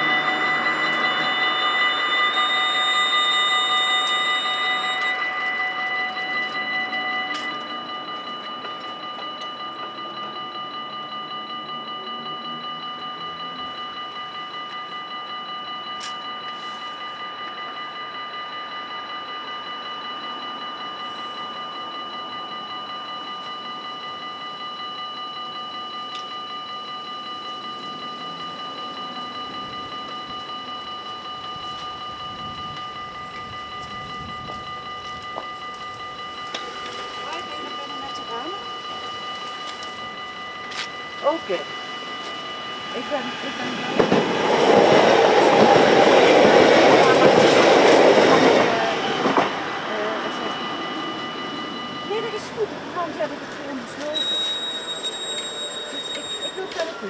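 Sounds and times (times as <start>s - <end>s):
level crossing warning bells ringing: 0.0s - 57.0s.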